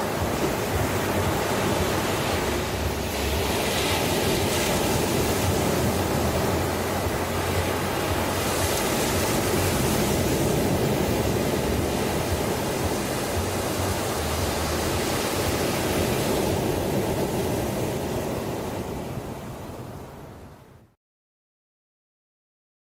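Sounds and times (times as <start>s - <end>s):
ocean waves washing on shore: 0.0s - 21.0s.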